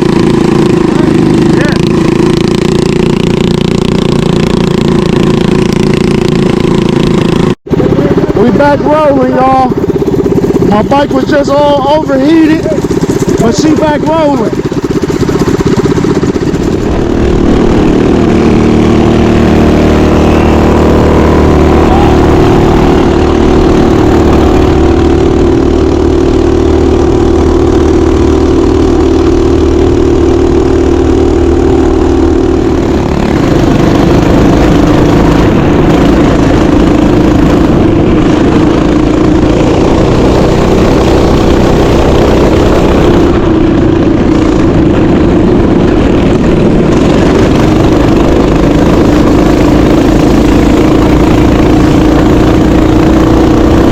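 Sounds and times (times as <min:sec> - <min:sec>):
mini bike engine running: 0:00.0 - 0:53.9.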